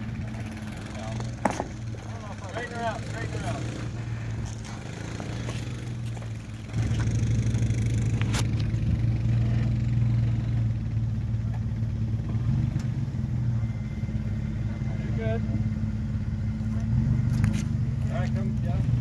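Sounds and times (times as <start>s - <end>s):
engine pulling under load: 0.0s - 19.0s.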